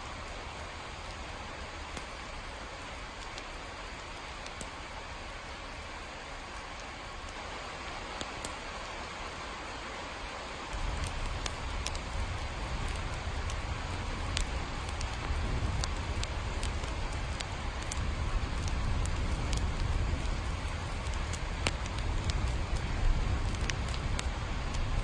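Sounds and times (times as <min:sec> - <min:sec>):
raindrops ticking on hard surface: 0:00.0 - 0:25.0
steady rain hiss: 0:00.0 - 0:25.0.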